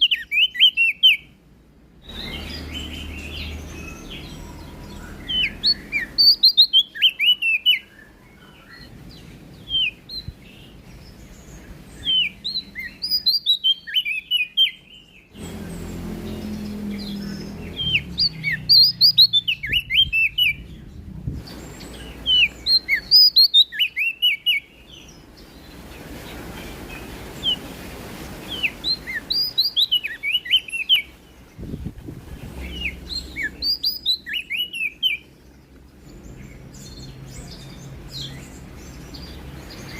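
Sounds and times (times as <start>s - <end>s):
low background noise: 0.0s - 39.9s
songbird singing: 0.0s - 39.9s.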